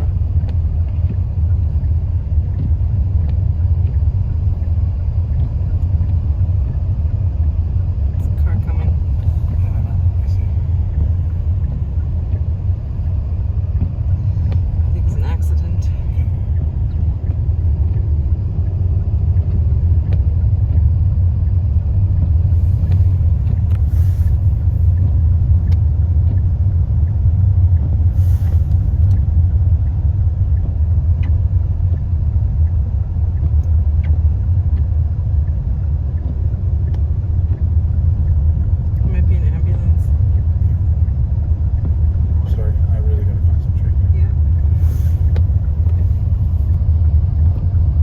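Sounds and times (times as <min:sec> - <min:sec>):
car cabin road rumble: 0:00.0 - 0:48.0.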